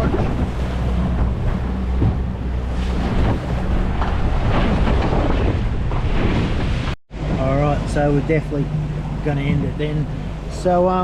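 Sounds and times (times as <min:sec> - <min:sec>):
boat motor humming: 0:00.0 - 0:11.0
water splashing: 0:00.0 - 0:11.0
wind buffeting microphone: 0:00.0 - 0:11.0.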